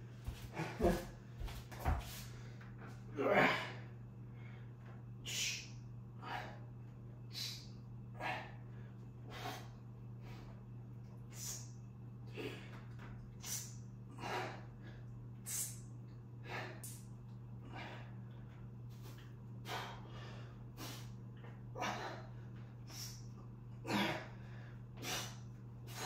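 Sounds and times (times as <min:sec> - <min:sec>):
steady low hum: 0:00.0 - 0:26.0
man breathing hard: 0:02.1 - 0:10.7, 0:11.3 - 0:26.0.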